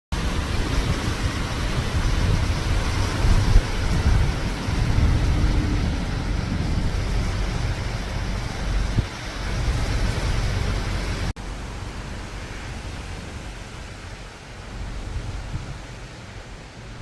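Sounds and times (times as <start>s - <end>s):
storm wind buffeting microphone: 0.1s - 17.0s.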